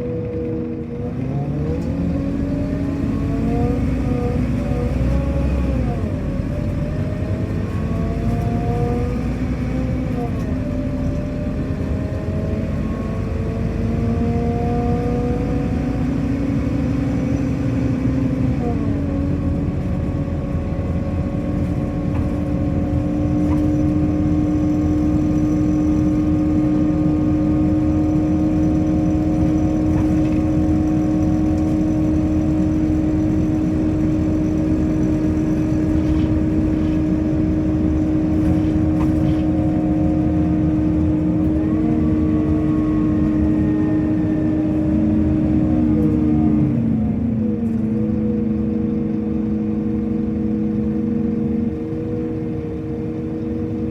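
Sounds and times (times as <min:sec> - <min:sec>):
bus diesel engine whining: 0:00.0 - 0:53.9.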